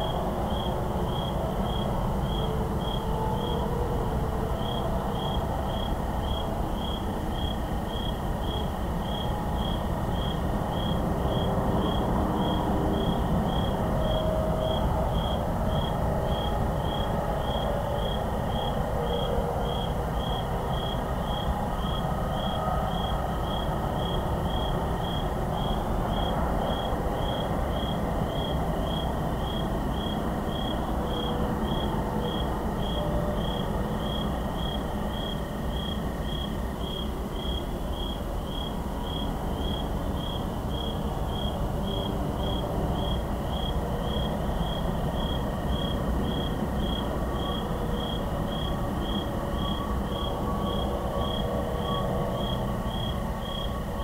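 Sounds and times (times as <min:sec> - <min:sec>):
crickets chirping: 0:00.0 - 0:54.0
distant highway traffic: 0:00.0 - 0:54.0.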